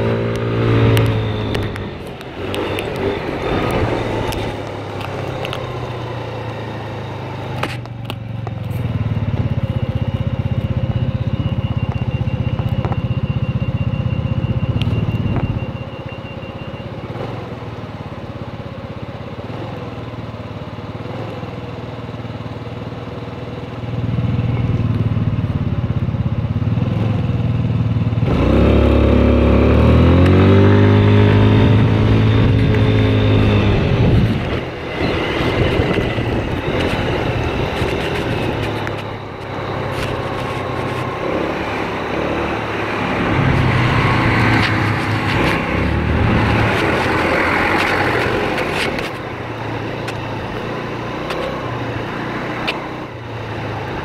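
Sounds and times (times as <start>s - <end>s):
scooter engine running: 0.0s - 54.0s
traffic going by: 0.0s - 54.0s.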